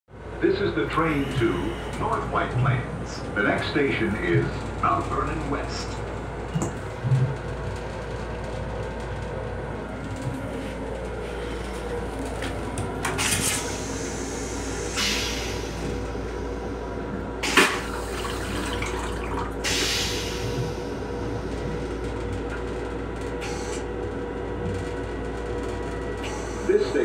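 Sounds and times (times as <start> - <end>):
railcar rumble: 0.1 - 27.0.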